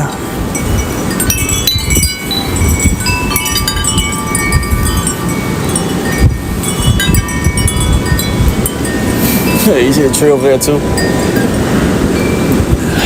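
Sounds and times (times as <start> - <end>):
wind chimes ringing: 0.0 - 13.0
wind rumbling on microphone: 0.0 - 13.0.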